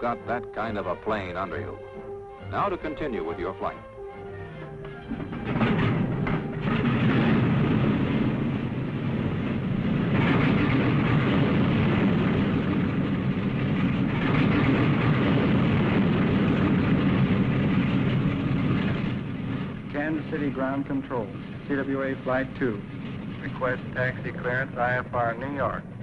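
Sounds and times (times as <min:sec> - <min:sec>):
propeller airliner engines droning: 0:00.0 - 0:26.0.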